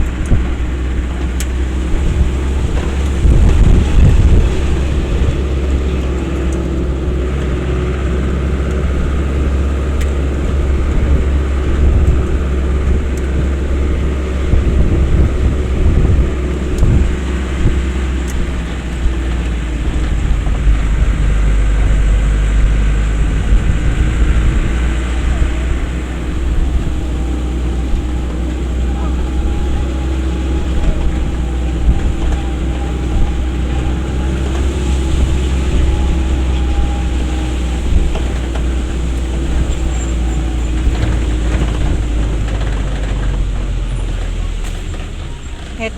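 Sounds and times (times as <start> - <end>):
road rumble: 0.0 - 45.9
vehicle engine running: 0.0 - 45.9.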